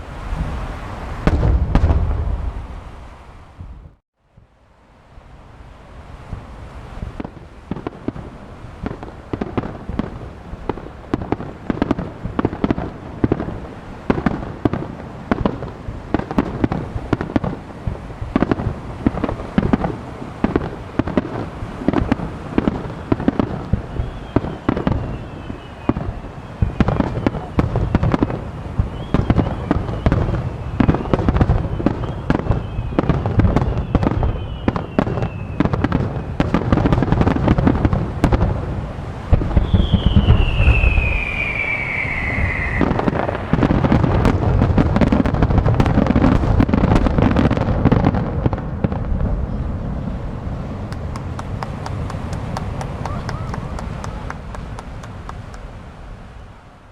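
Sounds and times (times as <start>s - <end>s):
fireworks bangs and crackles: 0.0s - 4.0s, 5.6s - 56.3s
fireworks whistling: 6.1s - 49.6s, 50.9s - 55.8s.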